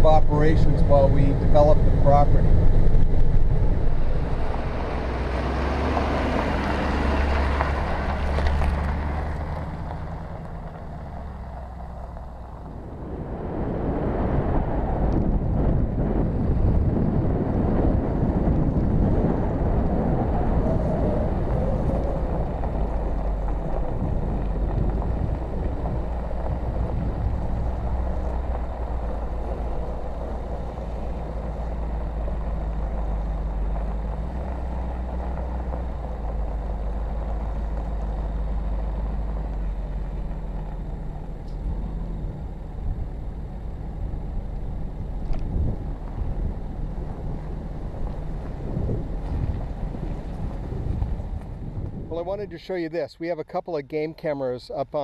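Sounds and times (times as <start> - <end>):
wind buffeting microphone: 0.0 - 52.6
vehicle engine running: 0.0 - 52.8.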